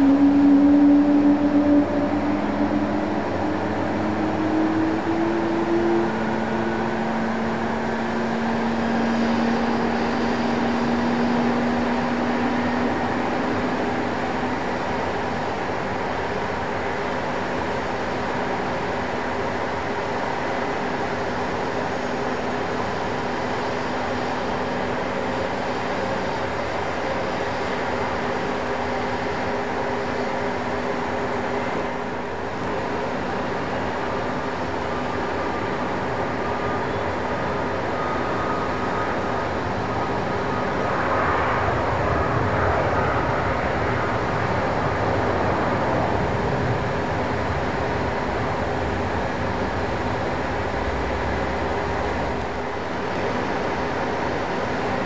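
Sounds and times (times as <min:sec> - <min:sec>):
jet engines whining at taxi thrust: 0:00.0 - 0:55.0.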